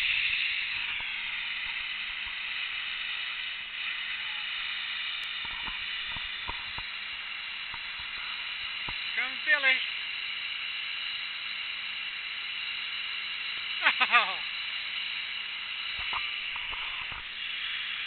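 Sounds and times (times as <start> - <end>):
snow gun hissing: 0.0 - 18.0.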